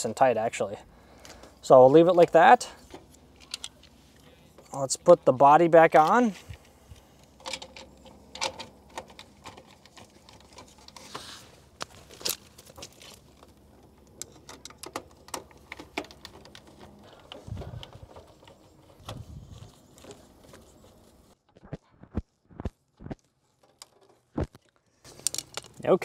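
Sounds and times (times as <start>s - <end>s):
wires rustling: 1.1s - 26.0s.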